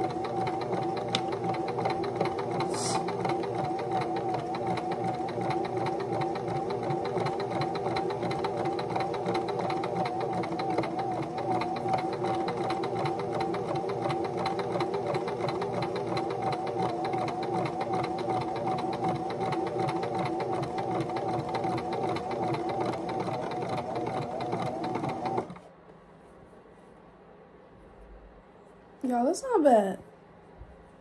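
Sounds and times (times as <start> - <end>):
sewing machine running: 0.0 - 25.7.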